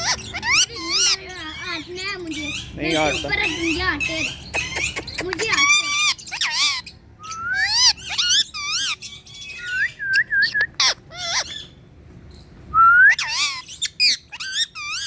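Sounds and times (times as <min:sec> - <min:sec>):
parrot whistling and calling: 0:00.0 - 0:11.8, 0:12.7 - 0:15.0.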